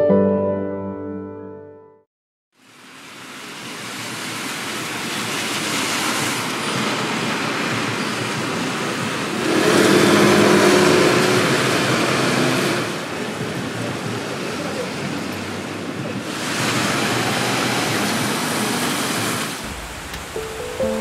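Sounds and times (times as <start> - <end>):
steady rain: 2.6 - 21.0
traffic on wet street: 2.6 - 21.0.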